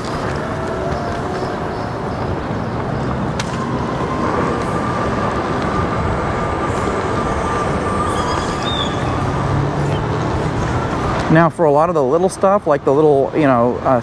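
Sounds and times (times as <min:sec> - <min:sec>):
wind rush on microphone: 0:00.0 - 0:11.4.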